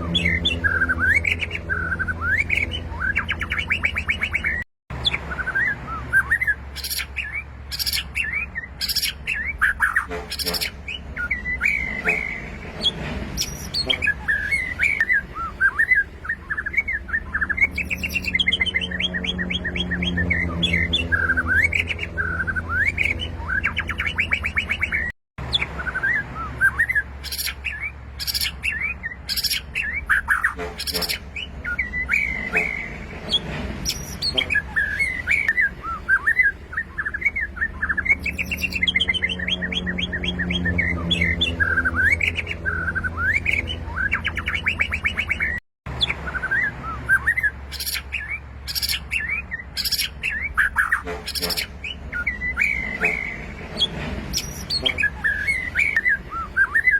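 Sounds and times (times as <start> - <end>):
bird singing whistled trills: 0.0 - 56.9.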